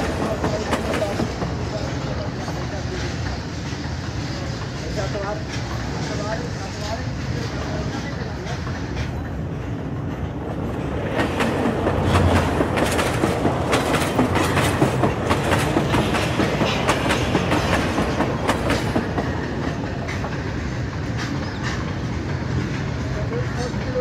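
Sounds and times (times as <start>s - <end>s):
train rumble: 0.0s - 24.0s
train wheels clacking over rail joints: 0.0s - 24.0s.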